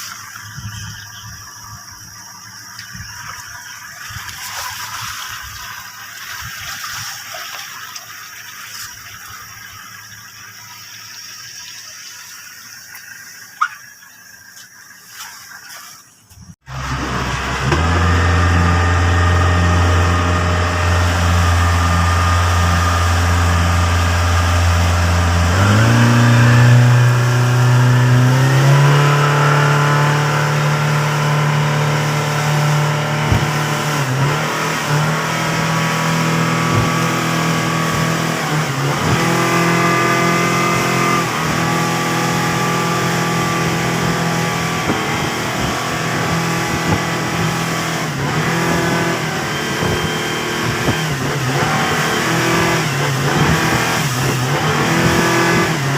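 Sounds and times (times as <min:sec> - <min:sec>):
boat engine running: 0:00.0 - 0:15.0, 0:16.4 - 0:55.9.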